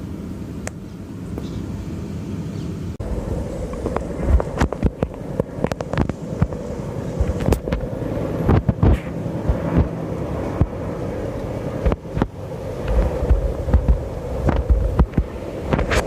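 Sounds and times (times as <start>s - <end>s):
twin-rotor helicopter drone: 0.0s - 16.0s
wind buffeting microphone: 2.8s - 16.0s.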